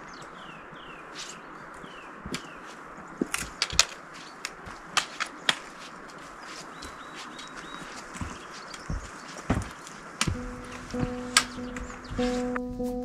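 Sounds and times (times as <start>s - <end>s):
boots and poles clicking on rock: 0.0s - 12.6s
steady background hiss: 0.0s - 13.0s.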